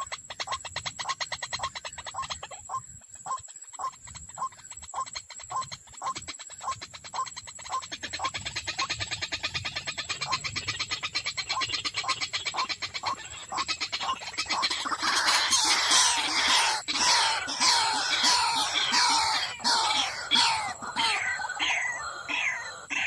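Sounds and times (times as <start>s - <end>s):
bird calling repeated notes: 0.0s - 23.0s
harsh croaking bird calls: 0.0s - 23.0s.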